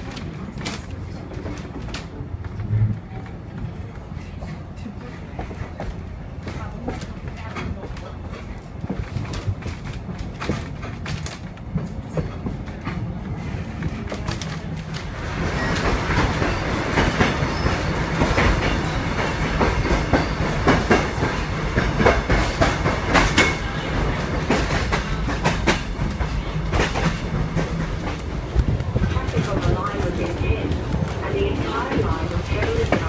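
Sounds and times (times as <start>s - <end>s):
train rumbling along track: 0.0s - 33.0s.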